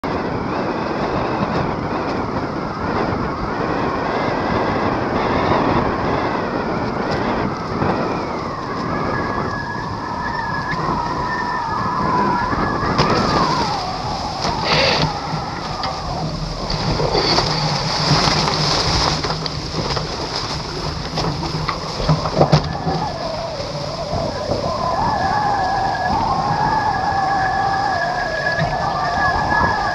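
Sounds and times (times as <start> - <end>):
faint wavering whine: 0.0 - 29.9
water streaming off hulls: 0.0 - 29.9
wind on microphone: 0.0 - 29.9.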